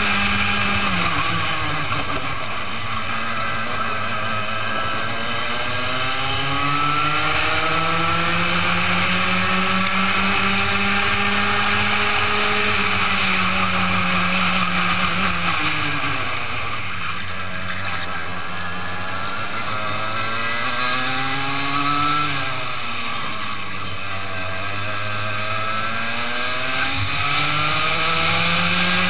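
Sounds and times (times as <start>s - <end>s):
kart engine at full throttle: 0.0s - 29.0s.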